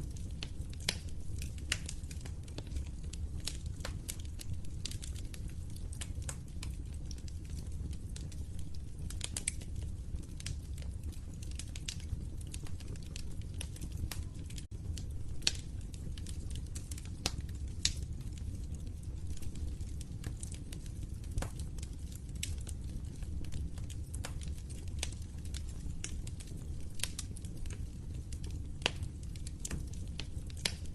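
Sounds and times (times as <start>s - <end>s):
low rumble of flames: 0.0s - 30.9s
wood fire pops and snaps: 0.0s - 30.9s.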